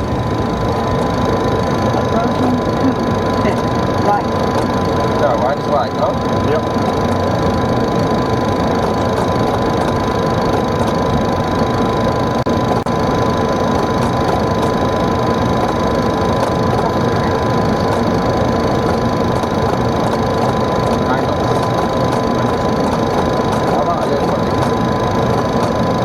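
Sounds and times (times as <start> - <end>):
airflow and engine noise: 0.0 - 26.0
constant high tone: 0.0 - 26.0.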